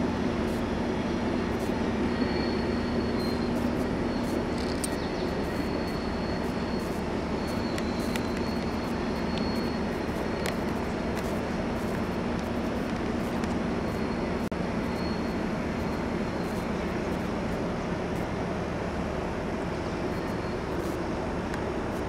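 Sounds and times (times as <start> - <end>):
distant freight train rumble: 0.0 - 22.0.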